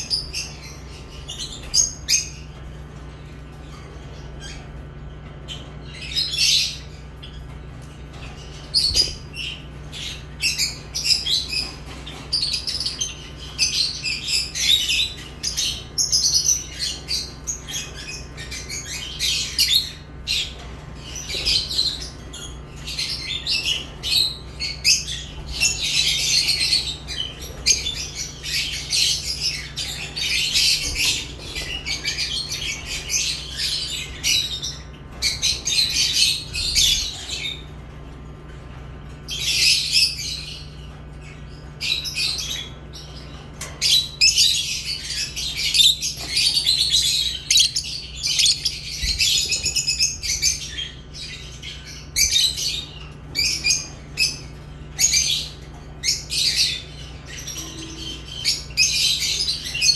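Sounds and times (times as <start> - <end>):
lovebirds chattering and squawking: 0.0 - 59.9.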